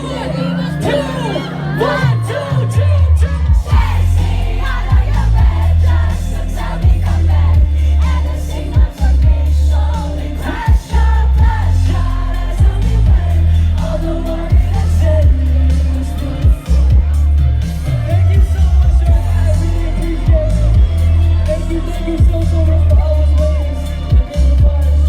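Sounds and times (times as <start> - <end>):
live pop song through loudspeakers: 0.0 - 25.0.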